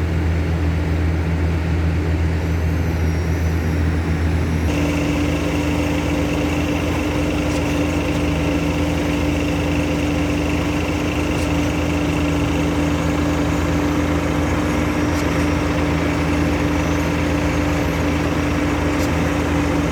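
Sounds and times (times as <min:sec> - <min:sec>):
machinery engine humming: 0:00.1 - 0:19.9.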